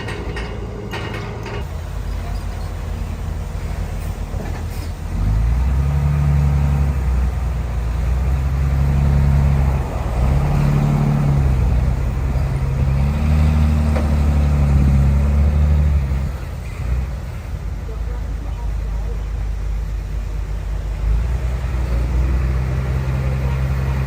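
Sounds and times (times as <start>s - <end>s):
heavy diesel engine under load: 0.0s - 24.0s.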